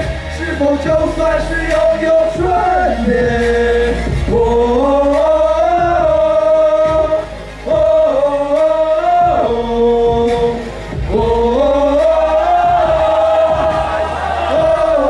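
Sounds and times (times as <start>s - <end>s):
men singing pop song: 0.0s - 15.0s.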